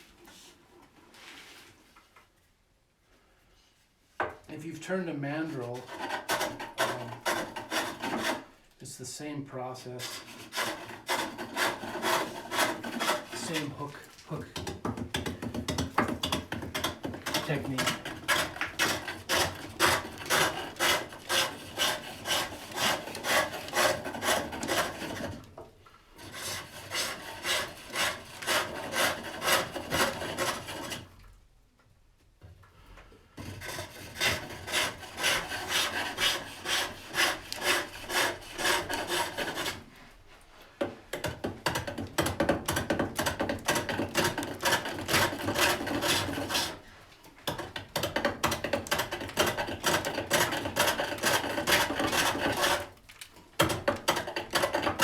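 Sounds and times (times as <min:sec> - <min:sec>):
hook tool scraping wood on lathe: 0:05.3 - 0:08.6, 0:09.2 - 0:31.3, 0:33.4 - 0:55.0.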